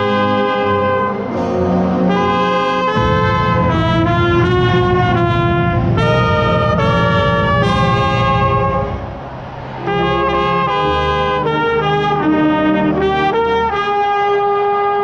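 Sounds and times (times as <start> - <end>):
brass horn close to microphone: 0.0 - 9.1, 9.8 - 15.0
marching band brass chords: 0.0 - 15.0.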